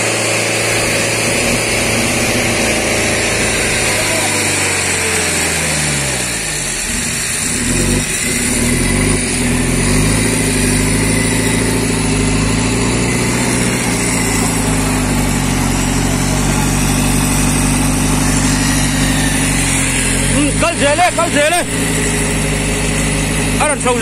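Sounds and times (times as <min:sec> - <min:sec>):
engine revving under load: 0:00.0 - 0:24.0.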